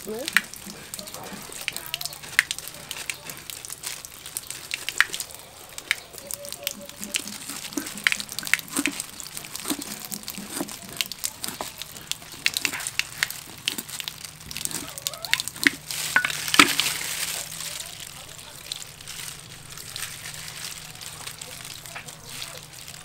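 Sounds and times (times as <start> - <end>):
cleaver scraping fish scales: 0.0 - 23.0
water trickling: 0.0 - 23.0.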